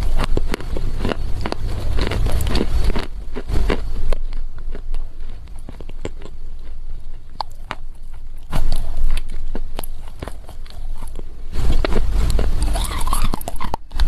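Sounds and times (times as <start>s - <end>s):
clay crunching when chewed: 0.0s - 14.0s.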